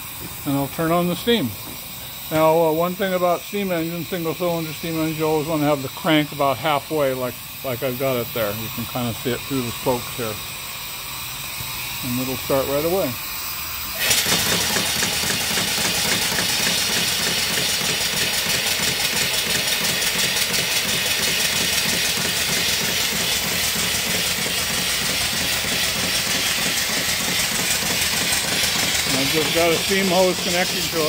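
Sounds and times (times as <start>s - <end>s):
steam engine exhaust puffing: 0.0s - 31.0s
steam hissing: 0.0s - 31.0s.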